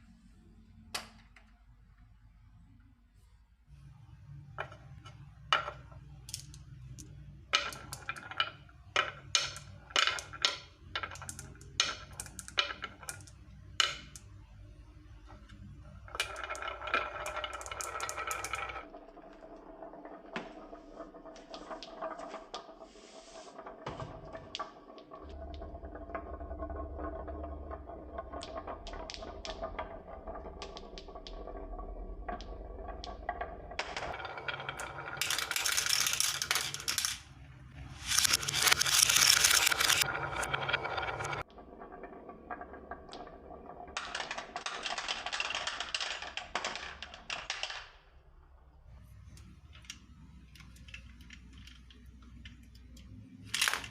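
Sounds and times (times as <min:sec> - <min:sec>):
marbles clacking and rolling on track: 0:04.3 - 0:53.9.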